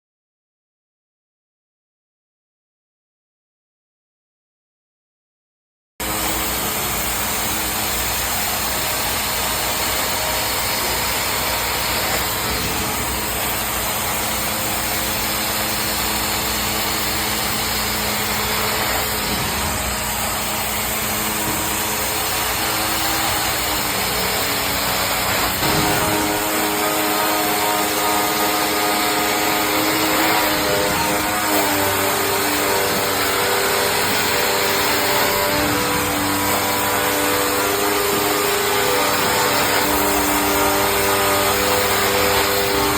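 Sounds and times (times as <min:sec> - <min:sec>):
carpet cleaning machine running: 0:06.0 - 0:42.9.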